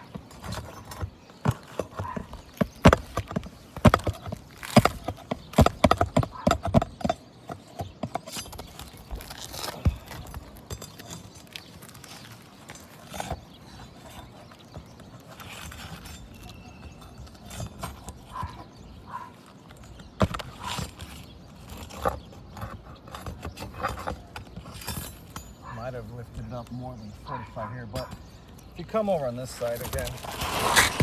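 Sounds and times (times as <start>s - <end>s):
pry bar knocking and scraping: 0.0s - 31.0s.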